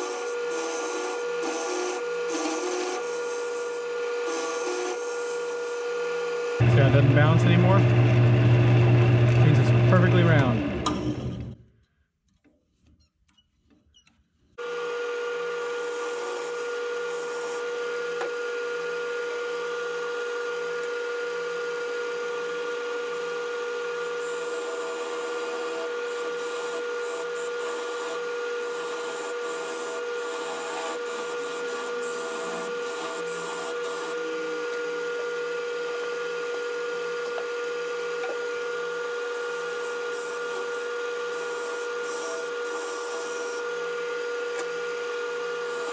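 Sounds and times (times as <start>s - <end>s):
wood lathe whine: 0.0s - 11.6s, 14.6s - 45.9s.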